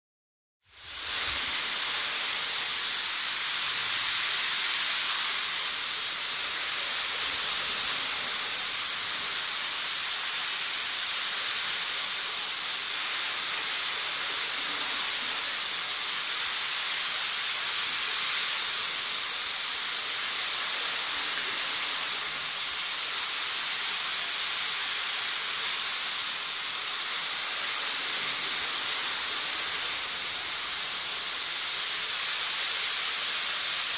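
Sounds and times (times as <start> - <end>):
shower spray hissing: 0.7 - 33.9.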